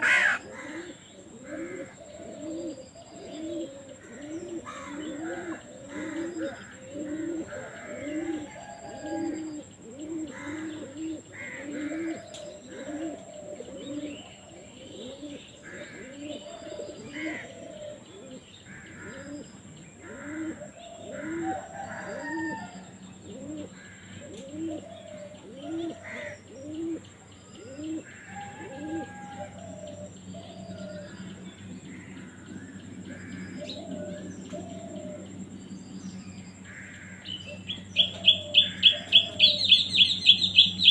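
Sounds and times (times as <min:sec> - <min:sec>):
higher bird calls: 0:00.0 - 0:40.9.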